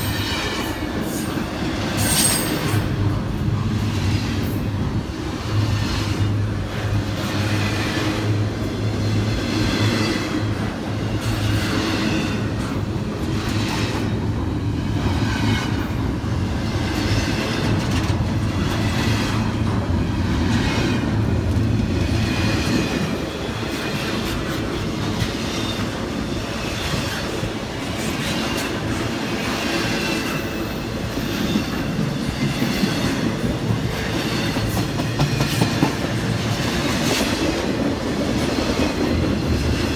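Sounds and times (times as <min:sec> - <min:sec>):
train wheels clattering over rail joints: 0:00.0 - 0:39.9.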